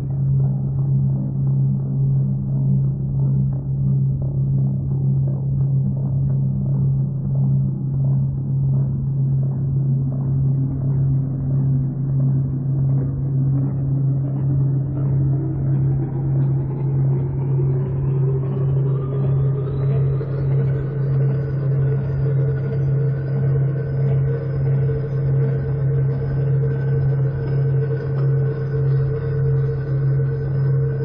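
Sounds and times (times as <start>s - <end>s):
deep electronic drone hum: 0.0s - 31.0s.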